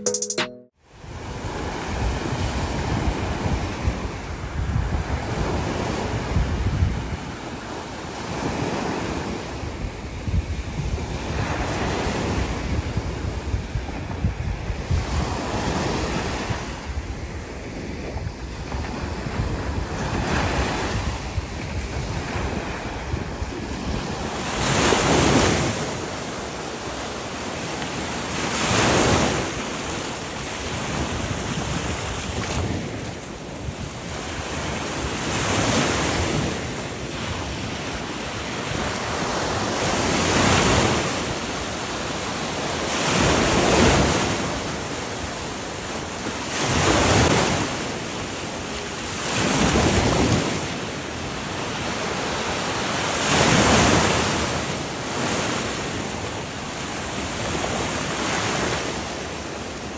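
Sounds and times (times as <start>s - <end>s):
waves breaking on beach: 1.0s - 59.9s
wind buffeting microphone: 1.0s - 59.9s.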